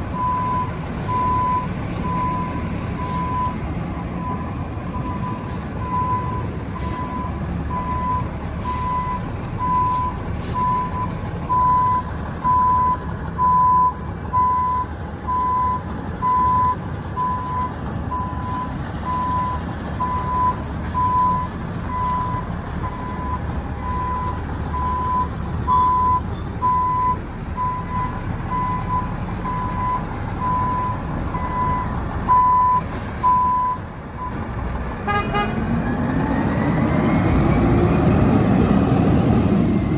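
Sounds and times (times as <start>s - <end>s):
truck engine rumble: 0.0s - 39.9s
truck reverse alarm beeping: 0.1s - 34.4s.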